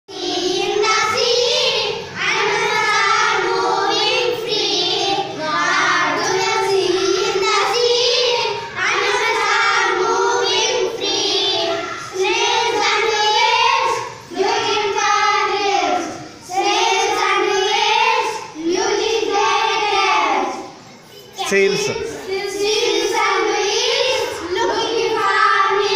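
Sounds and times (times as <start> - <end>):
children singing in unison: 0.1 - 21.0, 22.1 - 25.9.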